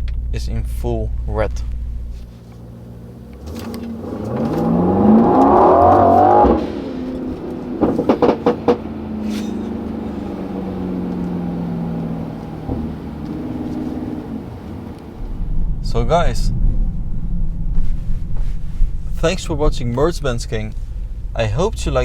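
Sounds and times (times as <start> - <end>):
car engine accelerating: 0.0 - 22.0
exhaust pops and cracks: 0.0 - 22.0.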